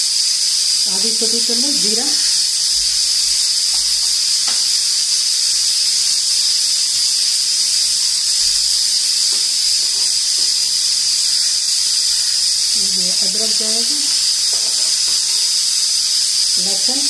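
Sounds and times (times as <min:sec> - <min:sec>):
seeds sizzling in hot oil: 0:00.0 - 0:17.0.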